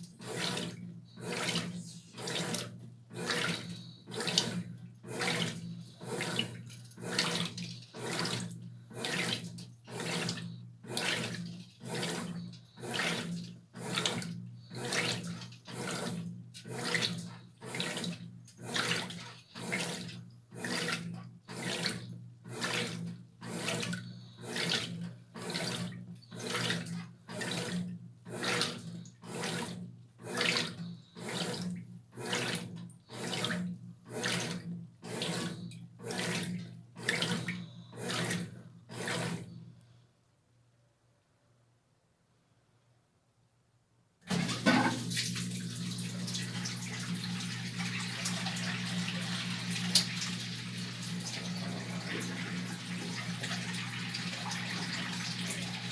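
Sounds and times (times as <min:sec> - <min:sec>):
water and clothes sloshing: 0:00.0 - 0:39.5, 0:44.3 - 0:55.9
washing machine motor hum: 0:00.0 - 0:39.7, 0:44.3 - 0:55.9.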